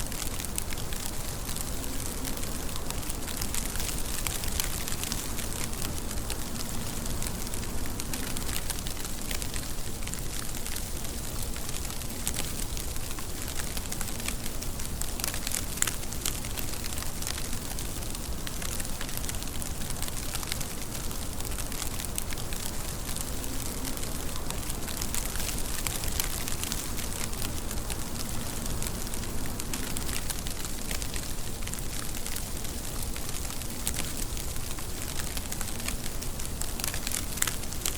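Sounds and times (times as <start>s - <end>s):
steady rain: 0.0s - 37.9s.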